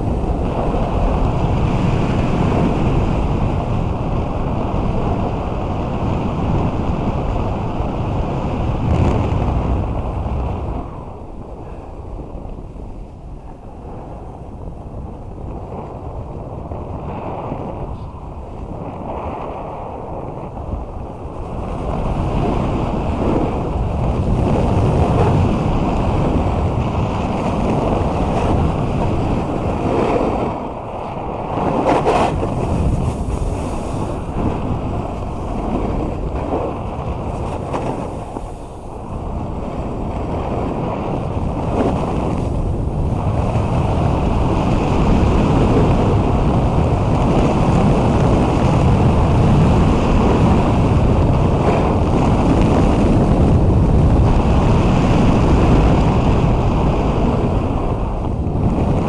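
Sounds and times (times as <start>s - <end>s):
snowboard scraping over snow: 0.0s - 59.0s
wind rushing over microphone: 0.0s - 59.0s.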